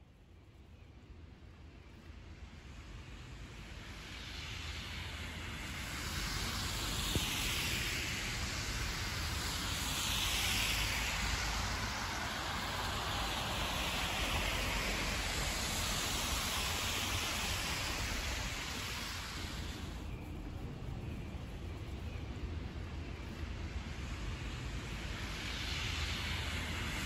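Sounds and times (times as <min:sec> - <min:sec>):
city traffic hiss: 0:00.1 - 0:27.0.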